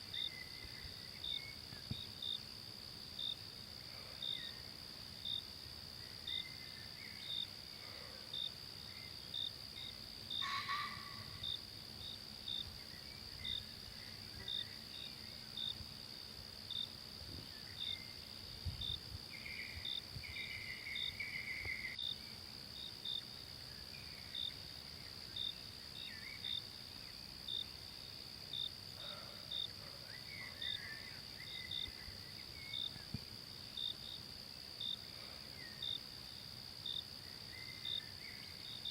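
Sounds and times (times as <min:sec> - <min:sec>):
night insects droning: 0:00.0 - 0:38.9
short insect chirp: 0:00.0 - 0:38.9.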